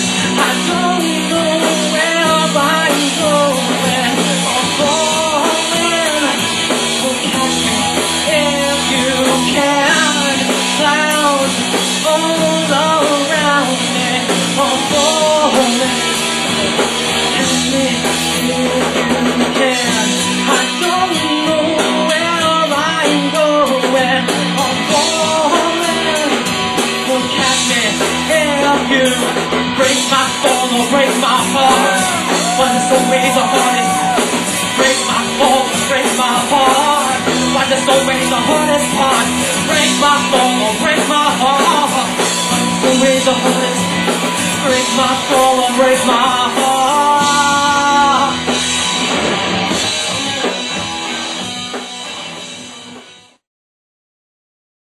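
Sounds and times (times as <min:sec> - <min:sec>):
drum kit: 0:00.0 - 0:53.4
electric guitars: 0:00.0 - 0:53.4
bass guitar: 0:00.0 - 0:53.5.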